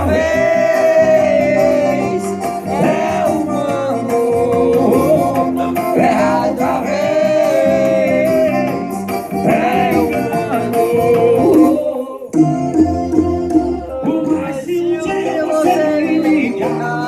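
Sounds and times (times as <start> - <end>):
song with vocals on car speakers: 0.0 - 17.0.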